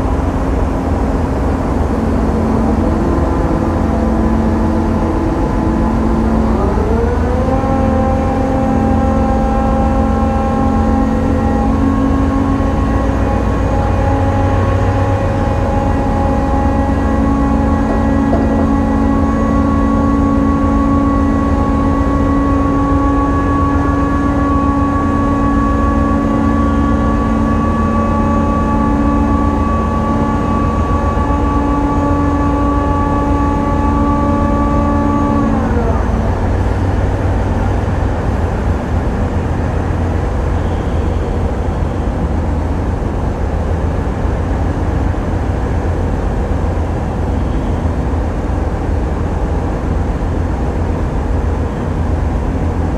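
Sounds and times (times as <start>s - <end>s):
towing winch whining: 0.0s - 43.3s
diesel engines rumbling: 0.0s - 52.9s.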